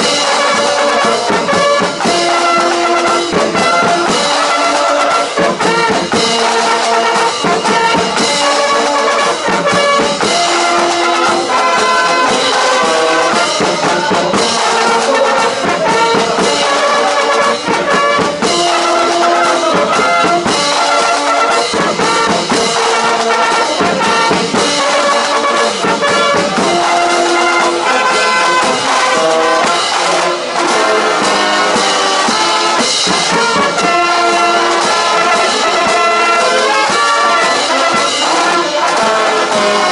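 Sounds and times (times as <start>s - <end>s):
brass band playing a march: 0.0s - 39.9s
drum beat: 0.0s - 39.9s.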